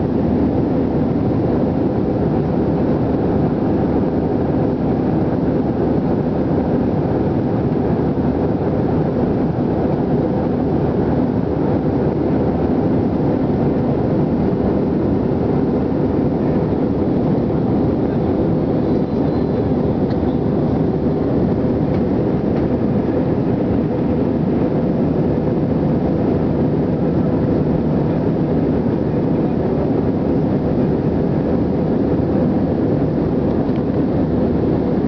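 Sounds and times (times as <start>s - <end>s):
jet airliner cabin roar: 0.0s - 35.0s.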